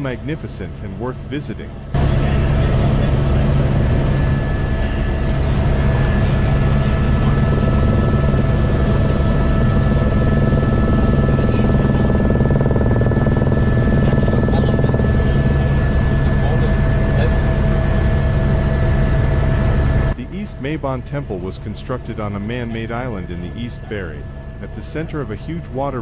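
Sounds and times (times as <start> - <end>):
helicopter rotor and engine drone: 0.0 - 26.0
high whine tones: 0.0 - 26.0.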